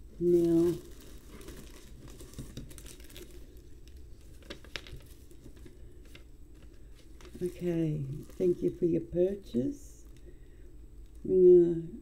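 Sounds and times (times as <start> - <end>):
paper rustling and crinkling: 0.1 - 11.2.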